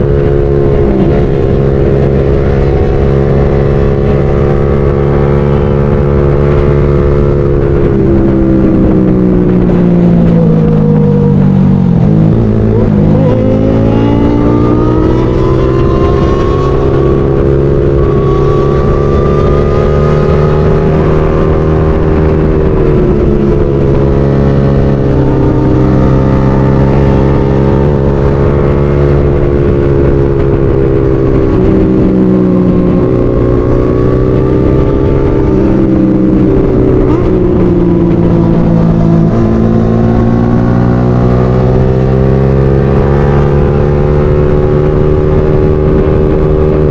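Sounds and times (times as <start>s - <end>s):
low wind rumble: 0.0s - 46.9s
motorcycle engine revving: 0.0s - 46.9s.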